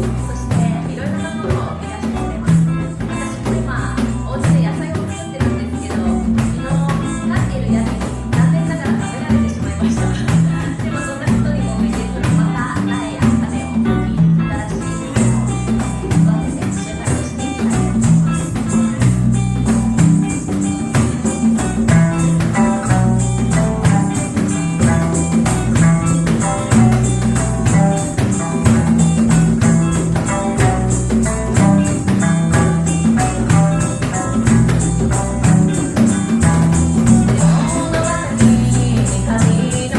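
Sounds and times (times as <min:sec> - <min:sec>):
bass line: 0:00.0 - 0:39.9
high percussion: 0:00.0 - 0:39.9
live reggae band: 0:00.0 - 0:39.9
plucked lute notes: 0:00.0 - 0:39.9
tambourine-like percussion: 0:00.0 - 0:39.9.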